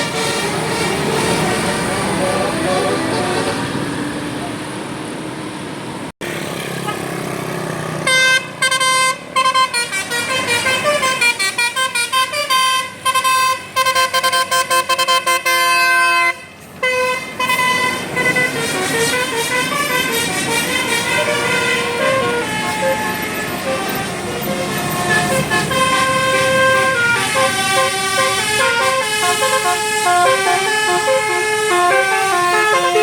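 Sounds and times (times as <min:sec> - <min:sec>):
bus musical horn playing tune: 0:00.0 - 0:03.7, 0:08.0 - 0:33.0
vehicle noise: 0:00.0 - 0:33.0.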